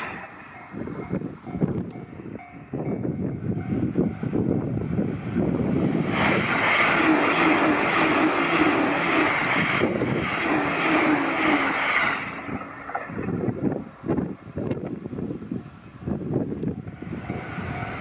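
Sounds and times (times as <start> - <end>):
electric train passing at speed: 0.0 - 18.0
uneven train rumble: 0.0 - 18.0.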